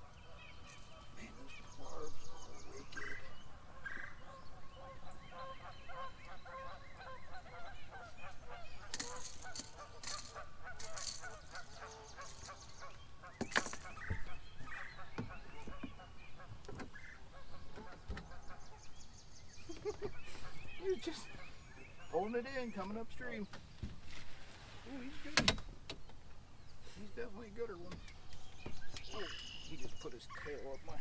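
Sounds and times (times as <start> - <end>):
geese honking: 0.0 - 19.2, 19.8 - 23.4, 29.0 - 31.0.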